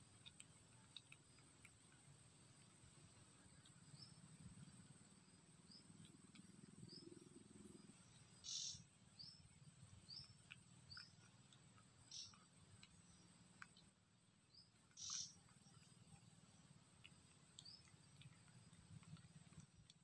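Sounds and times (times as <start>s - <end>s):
bird chirping: 2.9s - 19.6s.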